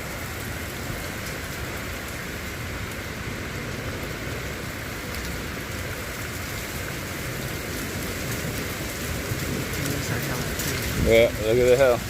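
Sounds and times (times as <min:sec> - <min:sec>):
hailstones ticking: 0:00.0 - 0:12.0
heavy rain hissing: 0:00.0 - 0:12.0.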